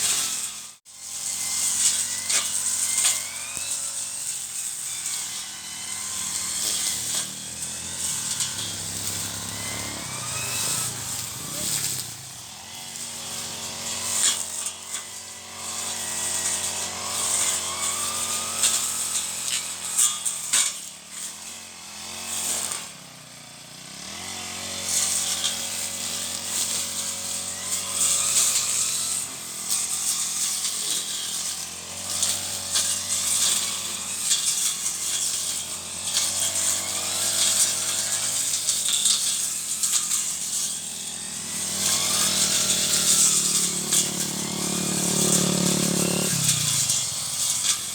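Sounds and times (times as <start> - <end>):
brush cutter engine running: 0.0 - 47.9.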